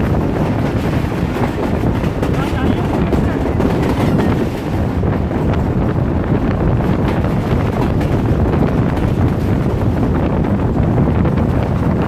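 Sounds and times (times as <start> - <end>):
train wheels rumbling on rails: 0.0 - 12.0
wind buffeting microphone: 0.0 - 12.0.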